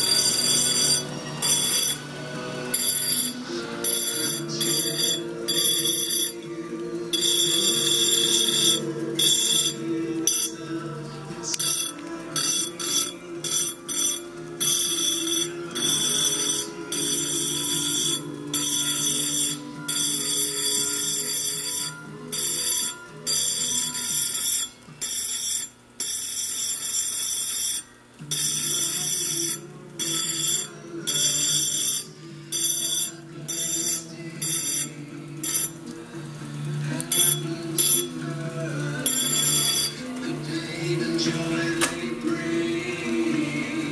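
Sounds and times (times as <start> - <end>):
background music: 0.0 - 25.0, 28.2 - 43.9
engraving wheel grinding glass: 0.0 - 43.9.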